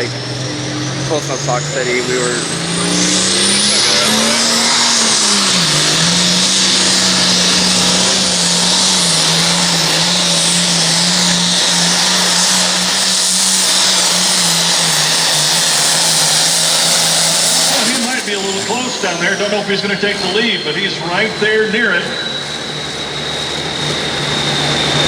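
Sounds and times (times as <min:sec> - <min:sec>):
diesel tractor engine under load: 0:00.0 - 0:25.0.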